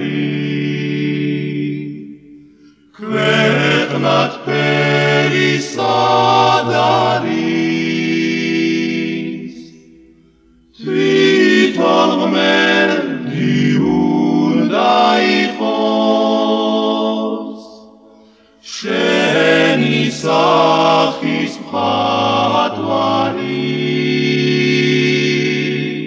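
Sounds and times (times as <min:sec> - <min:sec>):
male vocal group singing in harmony: 0:00.0 - 0:10.1, 0:10.7 - 0:26.0.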